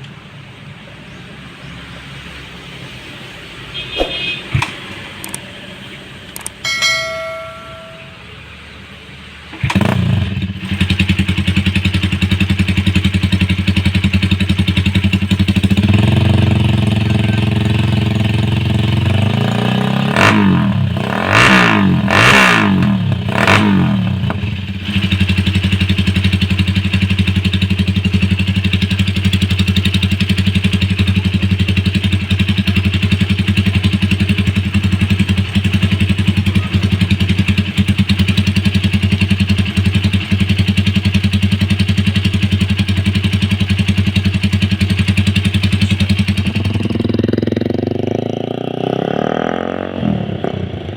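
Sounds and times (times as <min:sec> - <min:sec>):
motorcycle engine idling and revving: 0:00.0 - 0:50.9.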